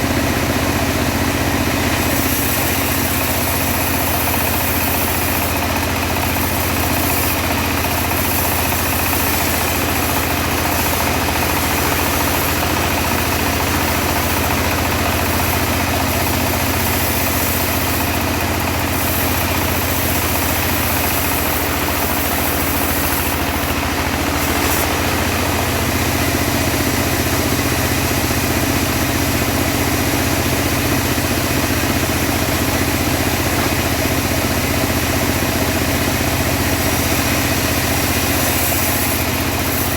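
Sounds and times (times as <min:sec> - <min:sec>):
sawmill engine drone: 0:00.0 - 0:39.9
saw blade hissing through wood: 0:01.5 - 0:28.4, 0:29.0 - 0:39.9.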